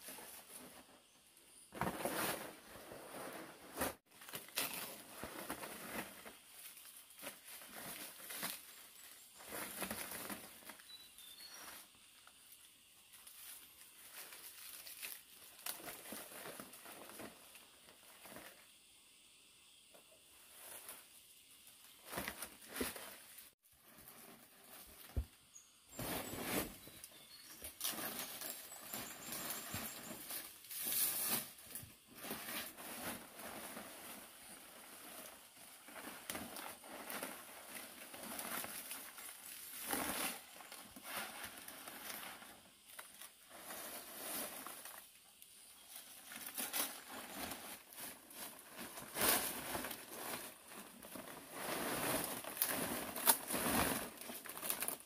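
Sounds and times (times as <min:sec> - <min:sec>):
rustling and crinkling: 0:00.0 - 0:18.8, 0:19.9 - 0:55.0.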